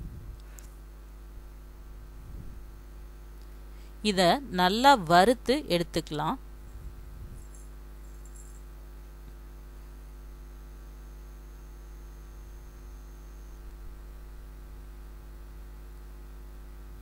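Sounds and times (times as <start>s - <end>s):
electrical mains hum: 0.0s - 17.0s
faint high whine: 0.0s - 17.0s.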